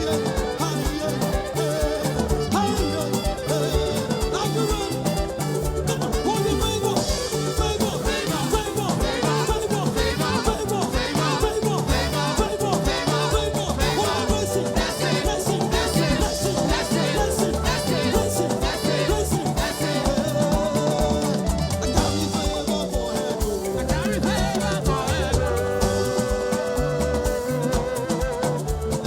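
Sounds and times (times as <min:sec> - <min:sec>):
live gospel band music: 0:00.0 - 0:29.0.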